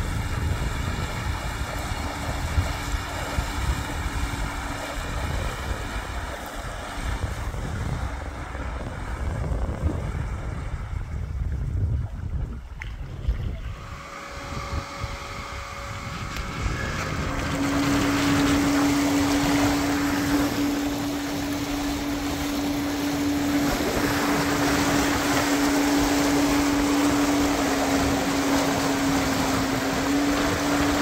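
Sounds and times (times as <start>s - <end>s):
electric outboard motor humming: 0.0s - 31.0s
rushing water: 0.0s - 31.0s
wind noise: 0.0s - 31.0s.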